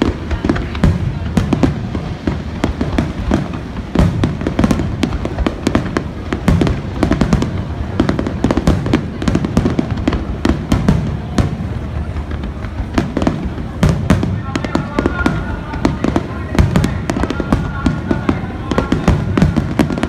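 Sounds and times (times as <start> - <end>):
fireworks booming and cracking: 0.0 - 20.0.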